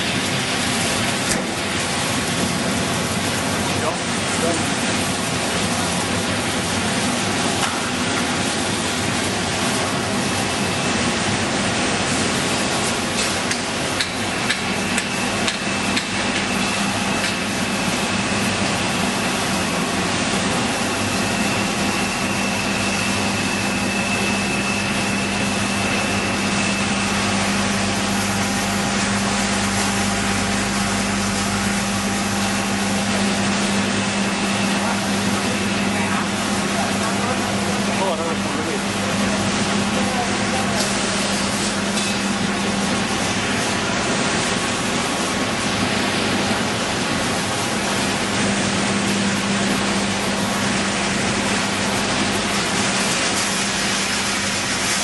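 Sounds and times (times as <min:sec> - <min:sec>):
factory machinery running: 0:00.0 - 0:55.0.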